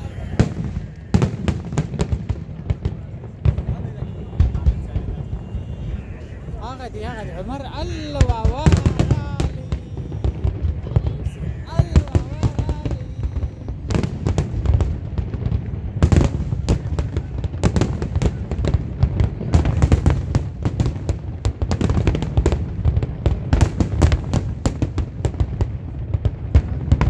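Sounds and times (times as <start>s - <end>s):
fireworks booming and cracking: 0.0s - 27.0s.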